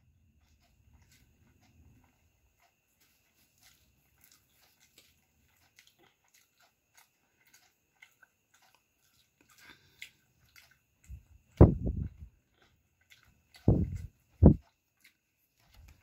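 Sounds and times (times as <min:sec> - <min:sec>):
fingers mixing pasta on a plate: 0:00.0 - 0:16.0
chewing: 0:00.3 - 0:16.0.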